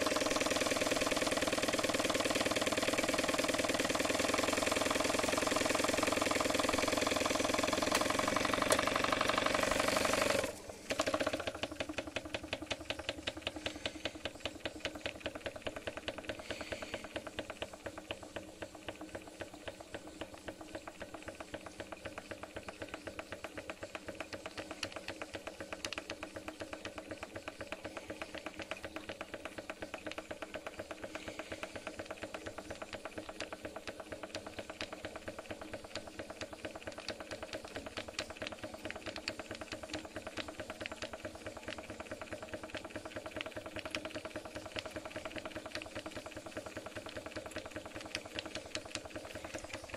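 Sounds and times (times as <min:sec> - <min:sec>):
model steam engine ticking: 0:00.0 - 0:49.9.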